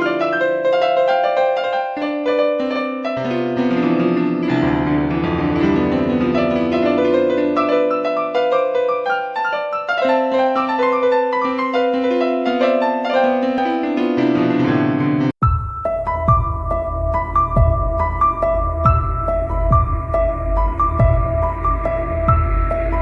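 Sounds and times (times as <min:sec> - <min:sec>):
slow piano music: 0:00.0 - 0:23.0.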